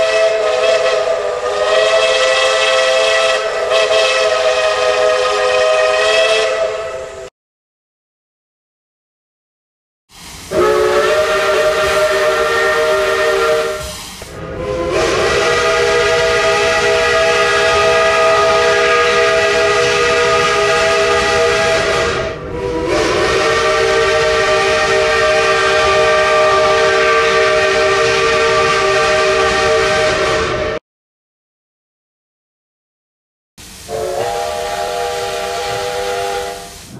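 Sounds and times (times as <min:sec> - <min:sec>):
steam hissing: 0:00.0 - 0:07.3, 0:10.1 - 0:30.8, 0:33.6 - 0:36.9
steam whistle blasts: 0:00.0 - 0:07.3, 0:10.4 - 0:30.8, 0:33.8 - 0:36.9.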